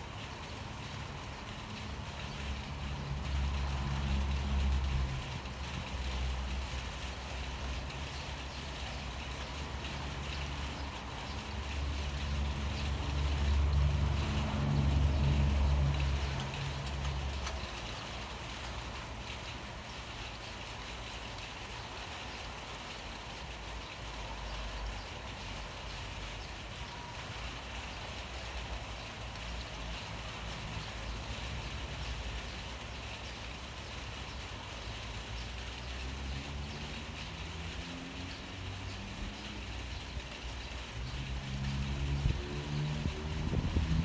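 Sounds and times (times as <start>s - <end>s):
motor traffic rumble: 0.0s - 44.0s
steady rain falling: 0.0s - 44.0s.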